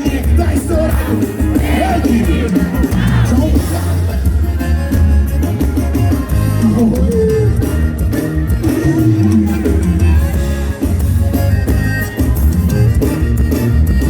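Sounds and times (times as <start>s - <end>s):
bass line: 0.0s - 14.0s
guitar: 0.0s - 14.0s
live band music: 0.0s - 14.0s.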